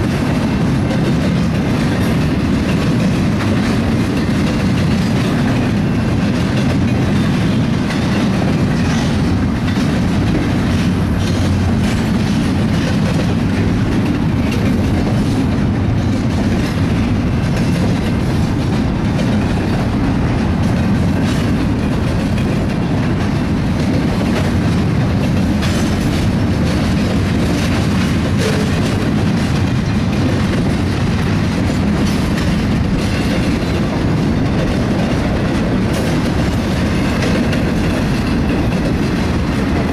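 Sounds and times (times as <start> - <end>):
steel wheels rumbling on rail: 0.0 - 39.9.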